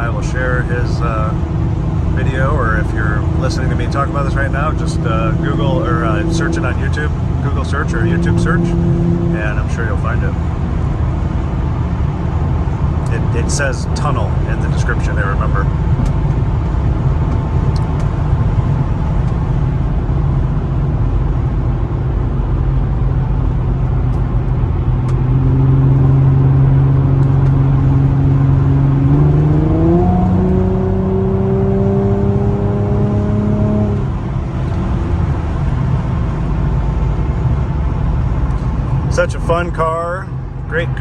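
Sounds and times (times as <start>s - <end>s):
car engine revving: 0.0s - 41.0s
road noise: 0.0s - 41.0s.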